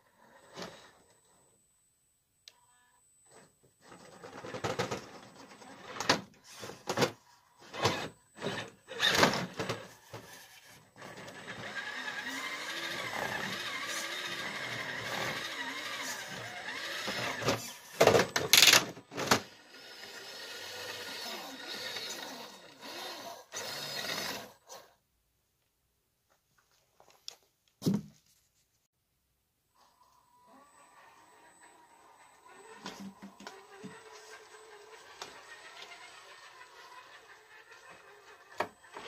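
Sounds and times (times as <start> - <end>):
electric motor and gearbox whine: 0.0 - 25.0, 29.7 - 39.0.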